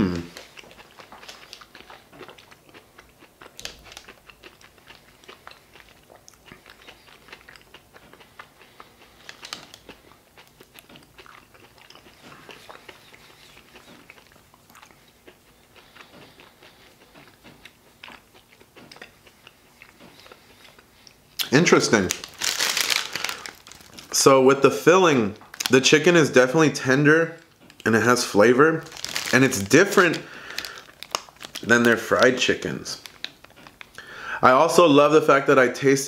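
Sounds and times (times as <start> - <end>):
person chewing food: 0.0 - 24.2, 25.4 - 25.8, 27.4 - 32.3
small crunches: 0.2 - 24.2, 27.4 - 34.0.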